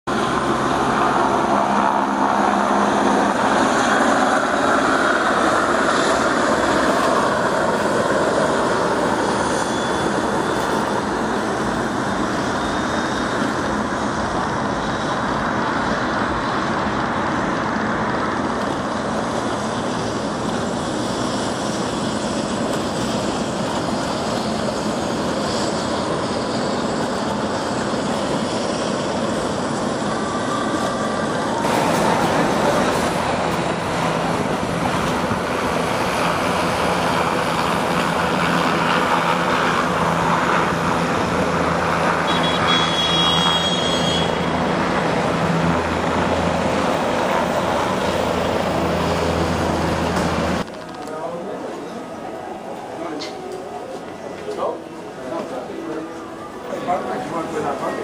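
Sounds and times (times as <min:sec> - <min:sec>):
helicopter turbine and rotor noise: 0:00.1 - 0:58.0.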